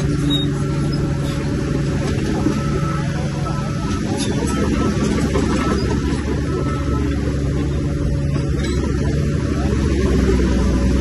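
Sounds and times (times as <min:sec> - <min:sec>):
bulldozer diesel engine droning: 0:00.0 - 0:11.0.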